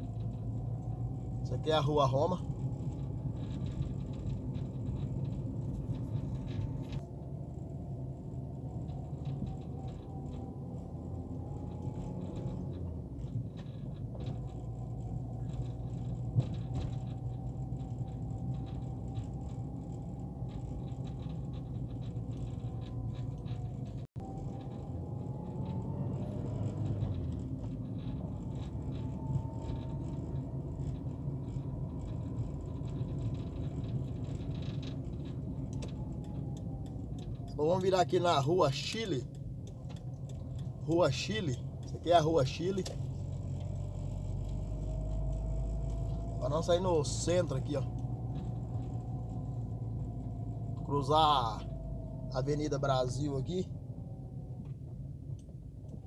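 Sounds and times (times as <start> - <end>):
car engine from inside cabin: 0.0 - 56.0
road noise: 0.0 - 56.0.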